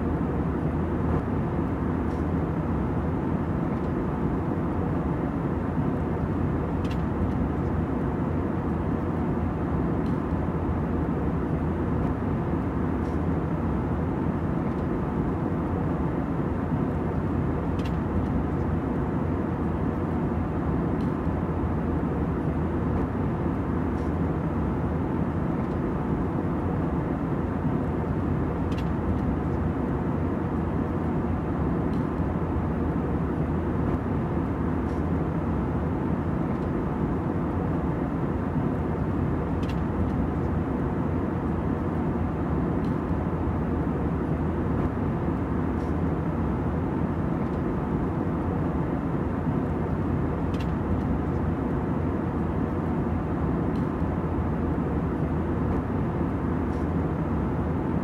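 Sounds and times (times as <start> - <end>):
aircraft cabin drone: 0.0 - 58.0.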